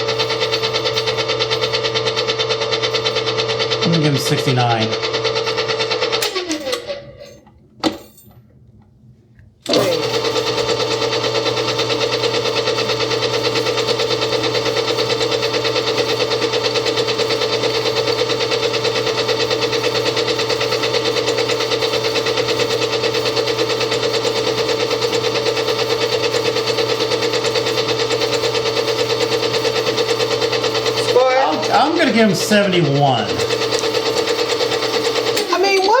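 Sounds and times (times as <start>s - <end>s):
stand mixer motor whine: 0.0s - 7.3s, 9.7s - 36.0s.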